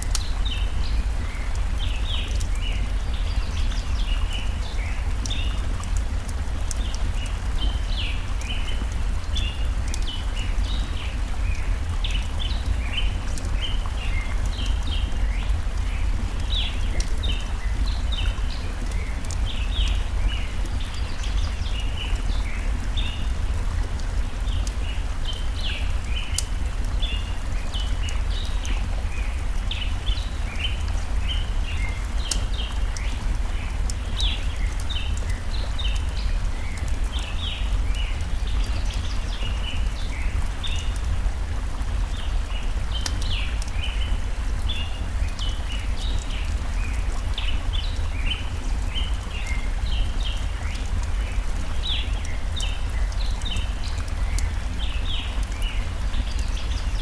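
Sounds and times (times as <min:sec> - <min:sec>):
small birds chirping: 0:00.0 - 0:57.0
stream water flowing: 0:00.0 - 0:57.0
wood fire crackling: 0:00.0 - 0:57.0.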